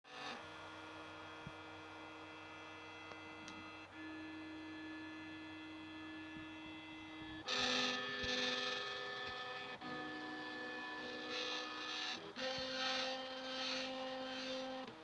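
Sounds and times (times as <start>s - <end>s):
laser engraver electrical whine: 0.1s - 15.0s.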